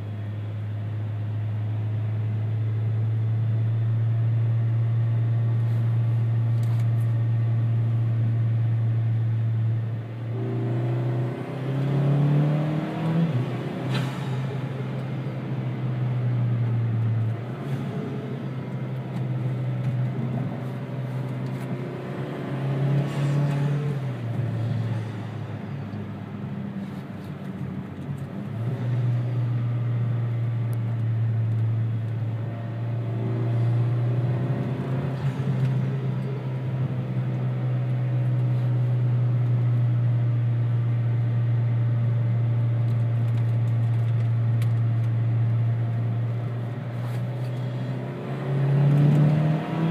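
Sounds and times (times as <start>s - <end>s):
car engine from inside cabin: 0.0s - 49.9s.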